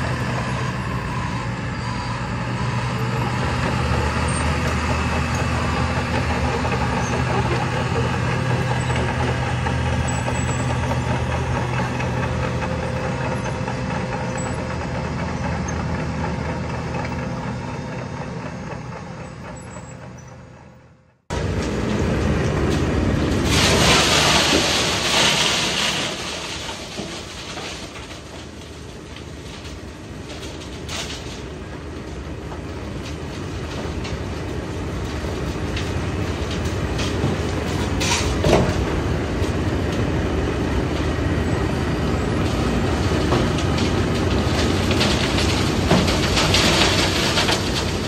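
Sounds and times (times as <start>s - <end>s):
cold planer milling asphalt: 0.0s - 48.0s
diesel engine noise: 0.0s - 48.0s.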